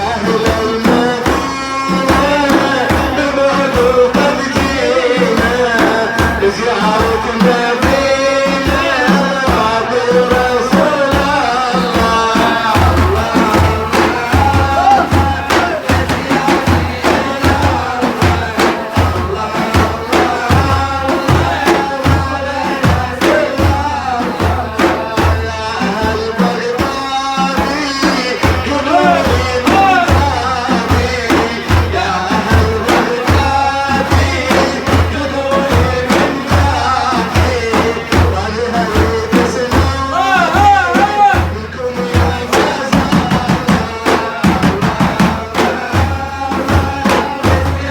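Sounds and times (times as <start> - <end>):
drums beating: 0.0 - 47.9
man singing devotional chant: 0.0 - 47.9.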